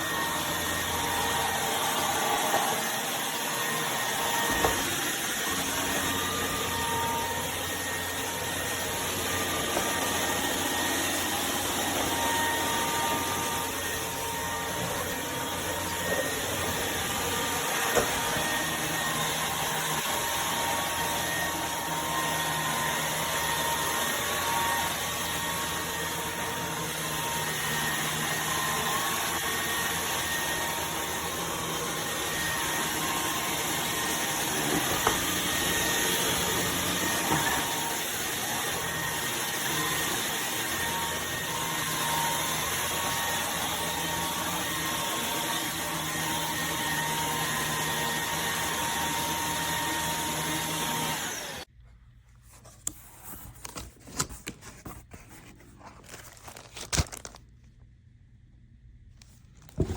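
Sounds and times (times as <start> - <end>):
stick vacuum whirring: 0.0 - 51.7, 59.6 - 59.9.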